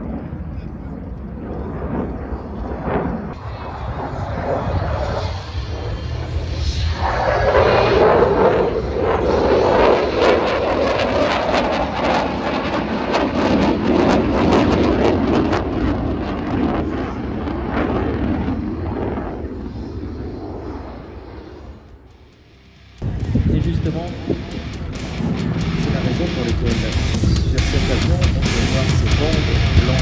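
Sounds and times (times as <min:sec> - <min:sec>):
jet fighter roaring past: 0:00.0 - 0:30.0.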